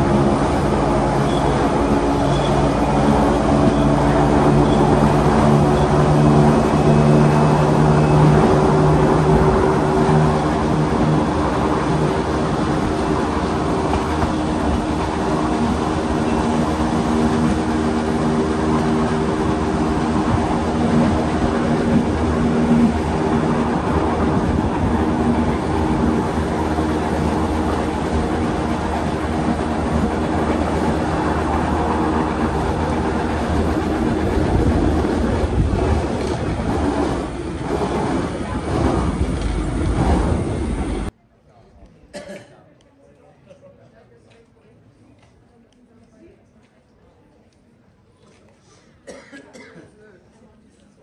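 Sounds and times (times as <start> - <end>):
electric train hum: 0.0 - 41.1
train rumble: 0.0 - 41.1.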